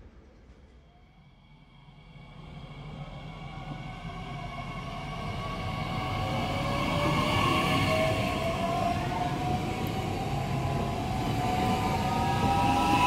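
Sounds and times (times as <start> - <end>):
wheels rumbling on rail: 2.1 - 13.0.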